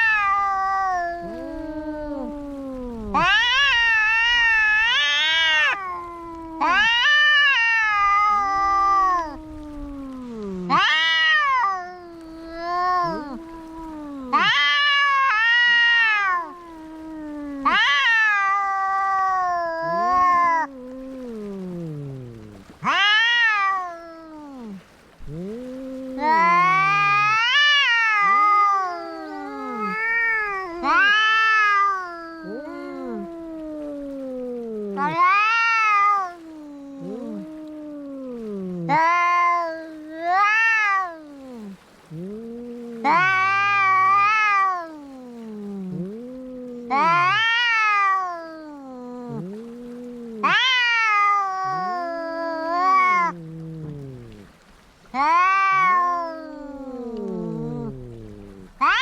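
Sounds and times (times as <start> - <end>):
cats yowling: 0.0 - 59.0
low drawn-out cat wails: 0.0 - 59.0.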